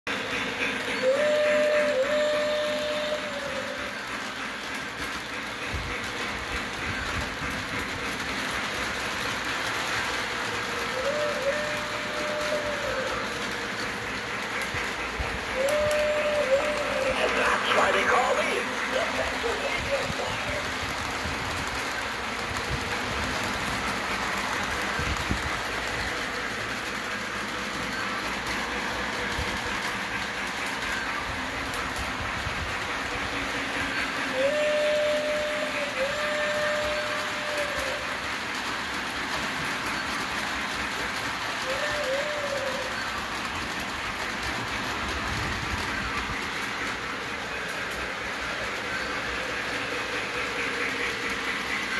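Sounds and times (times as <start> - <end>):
model train rumbling on track: 0.0 - 51.9.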